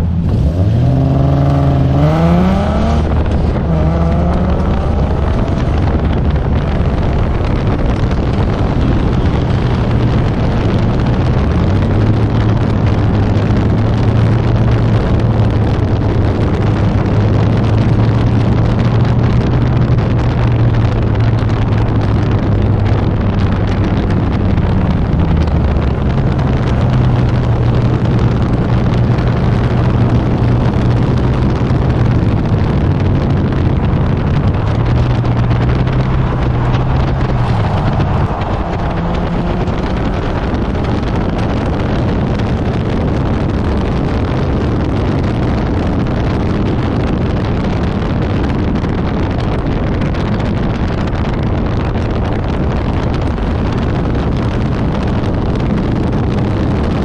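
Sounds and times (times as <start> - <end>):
car engine running hard: 0.0 - 57.0
road noise: 0.0 - 57.0
wind noise: 0.0 - 57.0.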